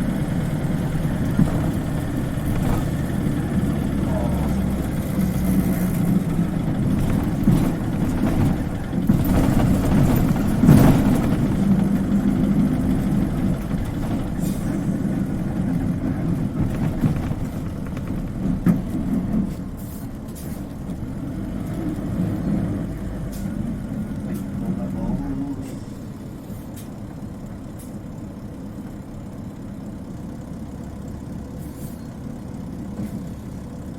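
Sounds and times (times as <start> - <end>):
bus engine hum from inside: 0.0 - 33.9.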